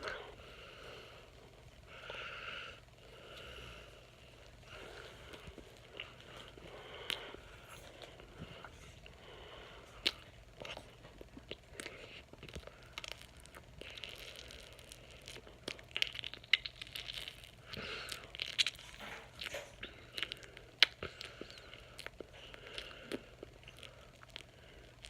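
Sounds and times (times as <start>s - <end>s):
person chewing marshmallow: 0.0s - 25.0s.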